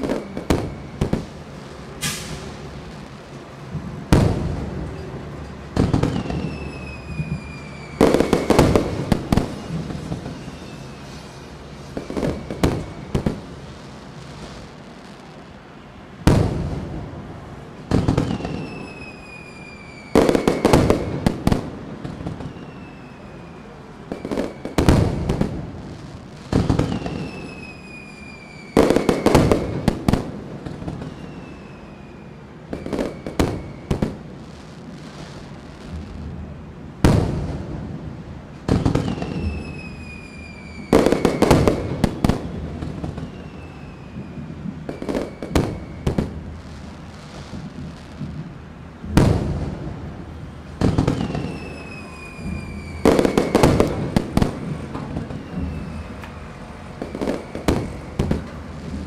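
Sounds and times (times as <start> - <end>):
falling firework whistle: 0.0 - 5.1, 5.8 - 17.1, 17.9 - 36.2, 38.6 - 59.0
fireworks booming: 0.0 - 59.0.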